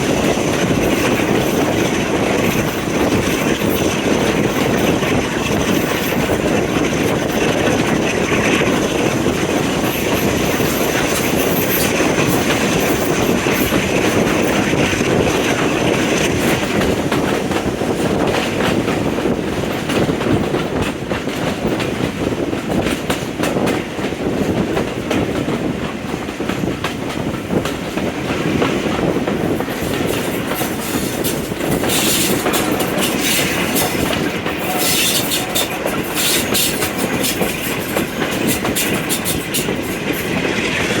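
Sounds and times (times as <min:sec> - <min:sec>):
train rumbling on rails: 0:00.0 - 0:41.0
wheels clicking over rail joints: 0:00.0 - 0:41.0.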